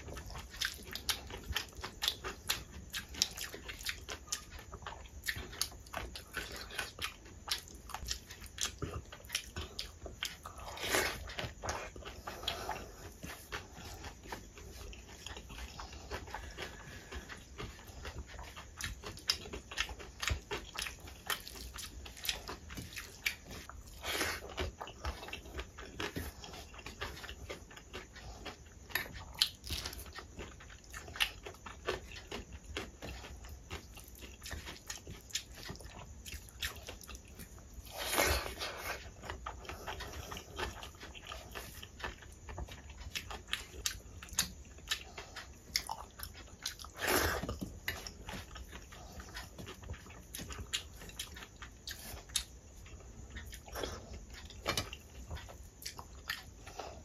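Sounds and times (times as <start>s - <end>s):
chewing and mouth smacking: 0.0s - 57.0s.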